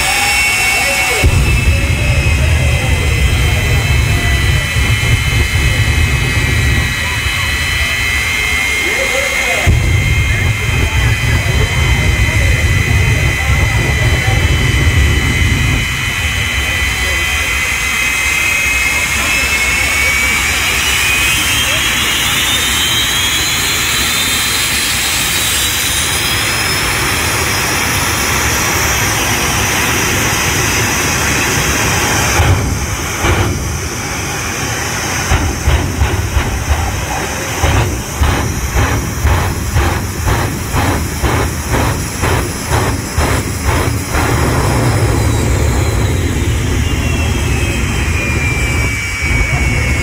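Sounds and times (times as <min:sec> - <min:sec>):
jet engine running loud: 0:00.0 - 0:50.0
pulsing flame bursts: 0:00.0 - 0:50.0.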